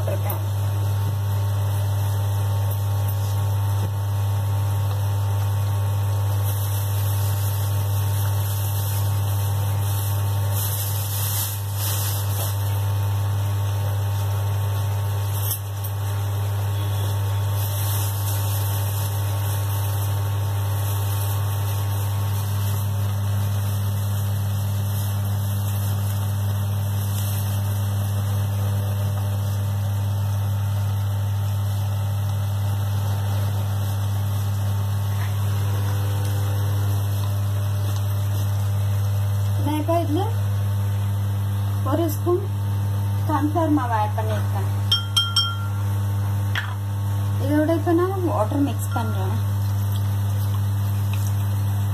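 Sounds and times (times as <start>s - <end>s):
gravy simmering hiss: 0.0s - 44.9s, 45.6s - 51.9s.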